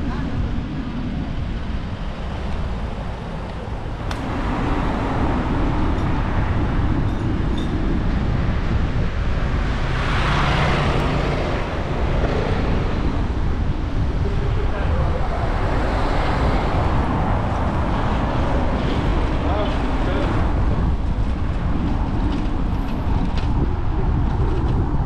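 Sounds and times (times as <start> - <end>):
cars and scooters passing: 0.0 - 25.0
wind rumble on microphone: 0.0 - 25.0.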